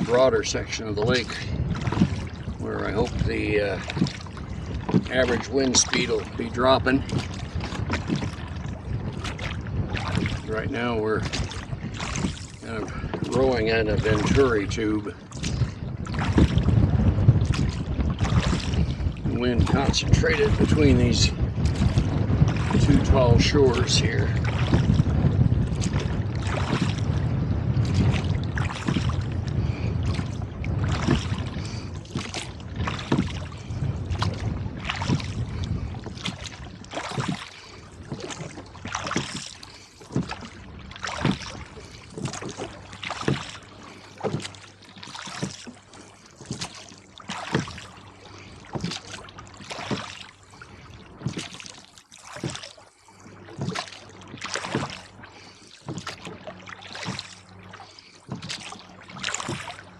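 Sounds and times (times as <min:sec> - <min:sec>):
wind buffeting microphone: 0:00.0 - 0:51.8, 0:52.4 - 0:59.9
oars splashing and knocking: 0:00.0 - 0:59.9.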